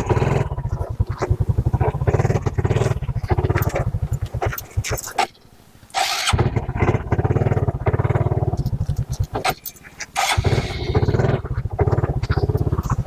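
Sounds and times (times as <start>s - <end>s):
motorcycle engine at low revs: 0.0s - 5.1s, 6.0s - 13.0s.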